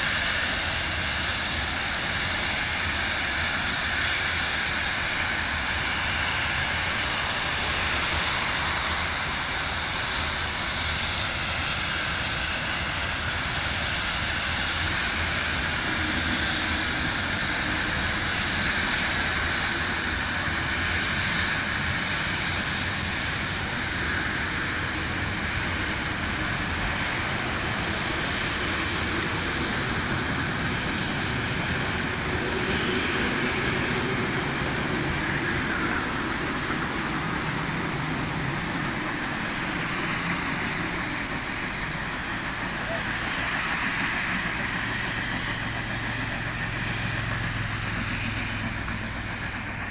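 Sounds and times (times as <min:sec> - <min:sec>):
hiss: 0:00.0 - 0:49.9
train wheels rumbling on track: 0:00.0 - 0:49.9.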